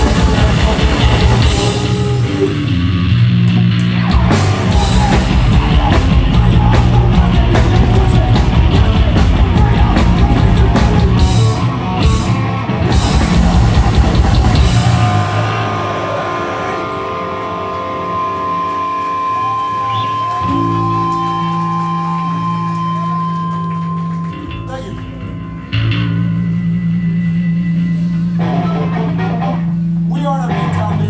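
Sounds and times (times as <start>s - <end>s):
bass guitar: 0.0s - 31.0s
distorted guitars: 0.0s - 31.0s
drums: 0.0s - 31.0s.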